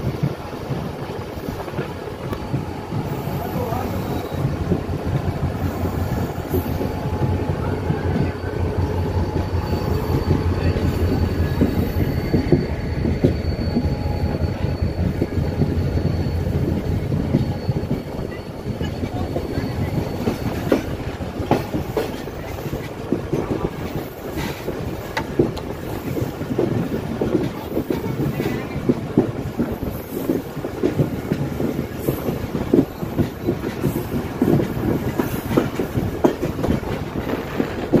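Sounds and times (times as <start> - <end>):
train running rumble: 0.0 - 38.0
wheels clacking over rail joints: 0.1 - 38.0.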